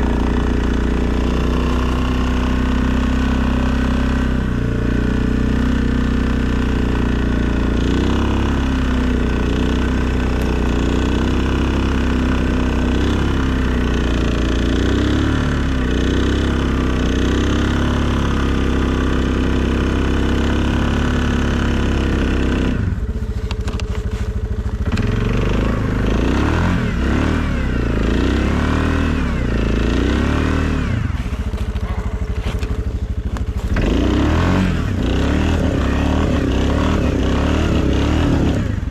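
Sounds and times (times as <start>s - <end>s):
atv engine running under load: 0.0s - 38.9s.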